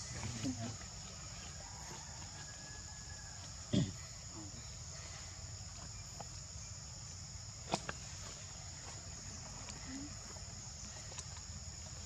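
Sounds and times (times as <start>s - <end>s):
insect chorus droning: 0.0s - 12.0s.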